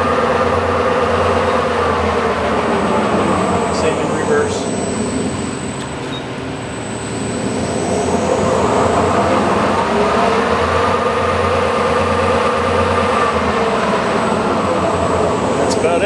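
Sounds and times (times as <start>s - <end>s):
lathe spindle whine: 0.0s - 16.0s.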